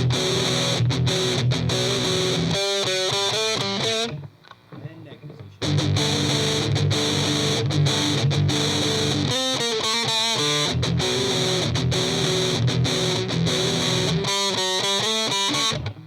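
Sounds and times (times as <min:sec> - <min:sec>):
distorted electric guitar metal riff: 0:00.0 - 0:04.2, 0:05.6 - 0:16.0.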